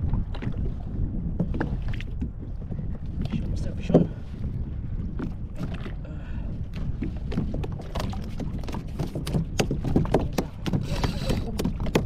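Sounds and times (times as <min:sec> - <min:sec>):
water slapping against kayak hull: 0:00.0 - 0:06.0, 0:06.6 - 0:12.0
wind: 0:00.0 - 0:12.0.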